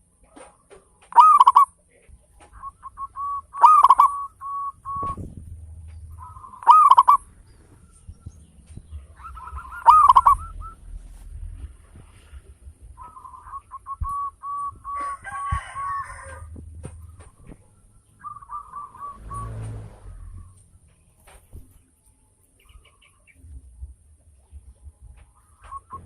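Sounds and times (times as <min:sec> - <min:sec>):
dove singing rolling notes: 0:00.0 - 0:26.0.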